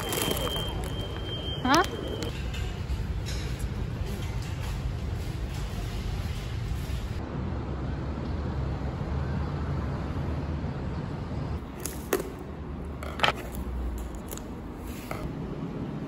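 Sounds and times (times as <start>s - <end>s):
low urban rumble: 0.0s - 16.0s.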